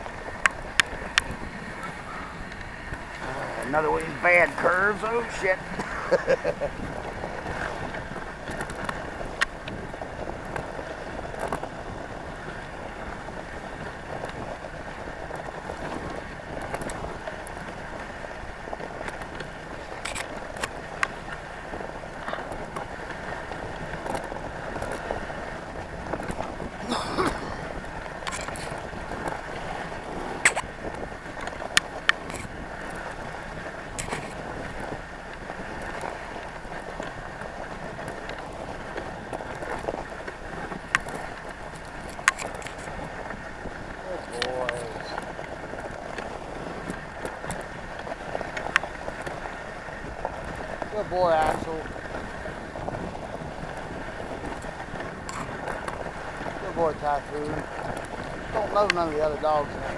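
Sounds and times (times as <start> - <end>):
sled runners hissing over snow: 0.0 - 59.9.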